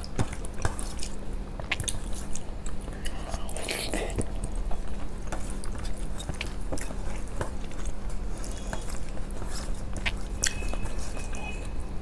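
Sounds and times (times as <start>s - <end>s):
person chewing: 0.0s - 11.8s.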